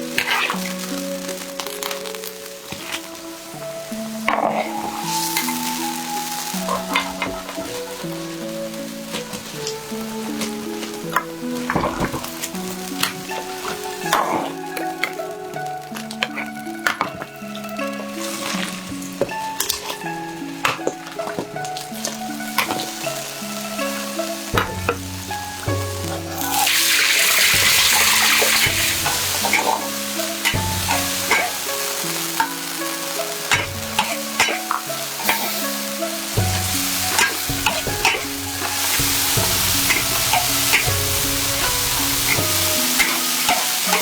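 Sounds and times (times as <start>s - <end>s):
food sizzling in a pan: 0.0s - 44.0s
instrumental music: 0.0s - 44.0s.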